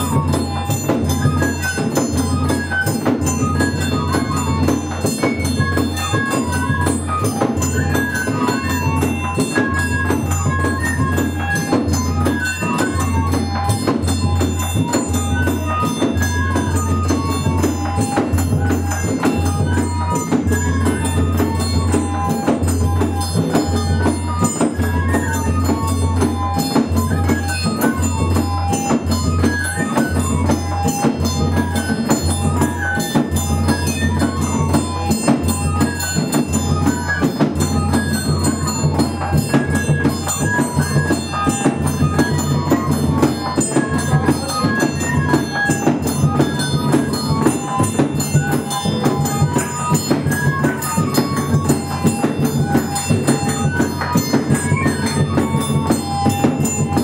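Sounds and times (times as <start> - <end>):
small percussion: 0.0 - 57.0
transverse flutes melody: 0.0 - 57.0.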